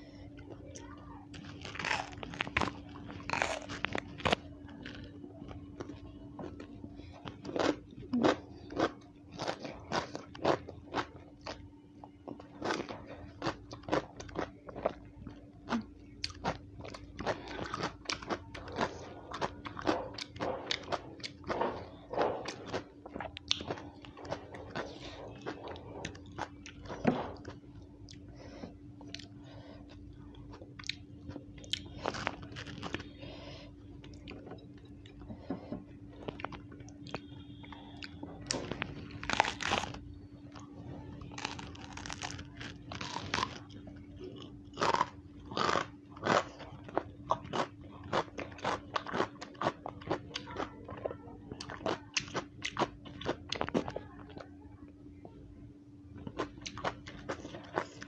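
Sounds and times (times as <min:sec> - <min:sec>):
faint steady hum: 0:00.0 - 0:58.0
crisp chewing crunches: 0:01.3 - 0:11.6, 0:12.2 - 0:28.3, 0:29.0 - 0:34.4, 0:36.1 - 0:54.5, 0:56.2 - 0:58.0.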